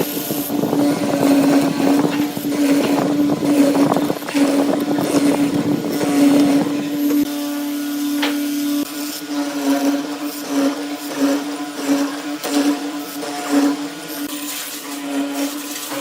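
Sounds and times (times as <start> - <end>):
power tool motor humming: 0.0 - 16.0.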